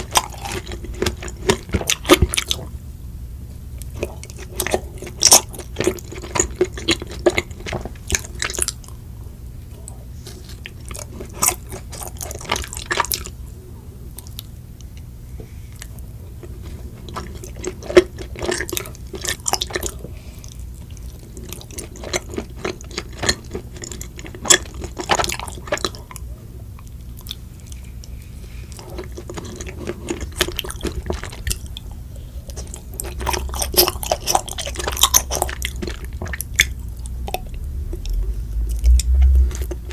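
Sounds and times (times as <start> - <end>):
wet sticky chewing: 0.0 - 2.7, 3.8 - 9.0, 9.9 - 13.4, 15.8 - 39.9.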